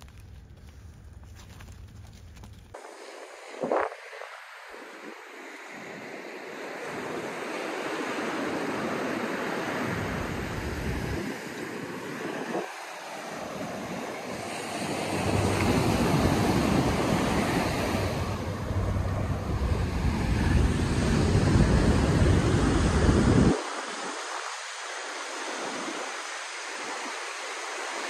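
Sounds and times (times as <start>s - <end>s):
wind buffeting microphone: 2.6s - 27.1s
steady rushing hiss: 2.7s - 28.0s.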